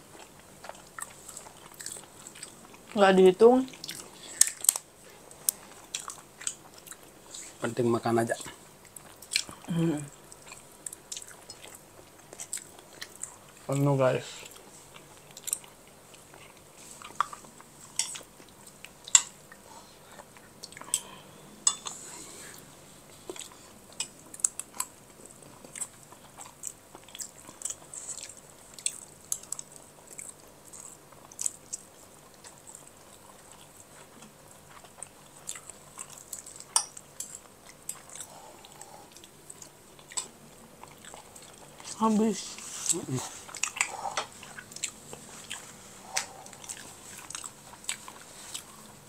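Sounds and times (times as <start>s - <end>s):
chewing and mouth clicks: 0.1s - 3.0s, 3.7s - 7.6s, 8.8s - 9.7s, 10.3s - 13.7s, 14.4s - 22.0s, 23.3s - 42.0s, 42.8s - 49.0s.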